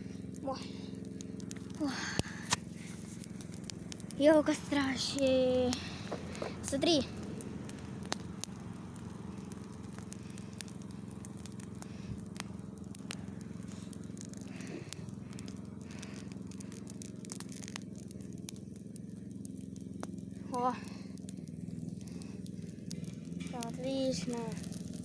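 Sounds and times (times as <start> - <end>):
sharp pops and snaps: 0.0 - 25.0
steady low hum: 0.0 - 25.0
wood fire crackling: 0.0 - 25.0.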